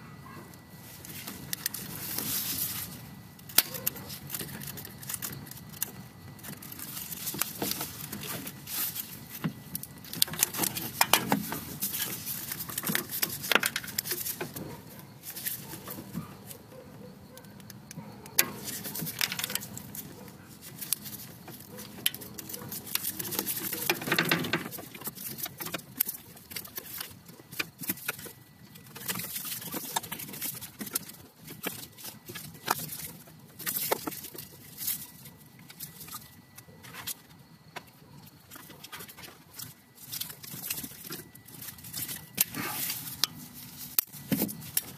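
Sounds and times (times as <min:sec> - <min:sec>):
plastic cracking and crunching: 0:01.1 - 0:16.6, 0:17.6 - 0:37.2, 0:38.4 - 0:44.9.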